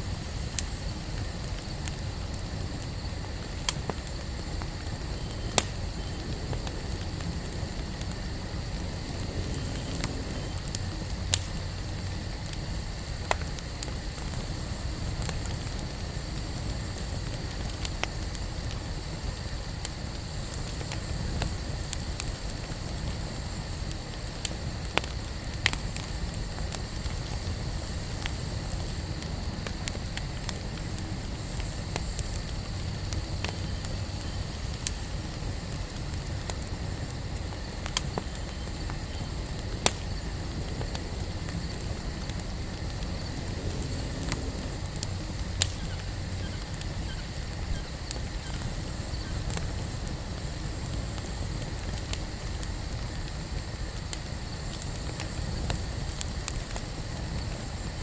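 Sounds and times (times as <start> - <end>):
burning wood popping: 0.0 - 58.0
campfire crackling: 0.0 - 58.0
low fire rumble: 0.0 - 58.0.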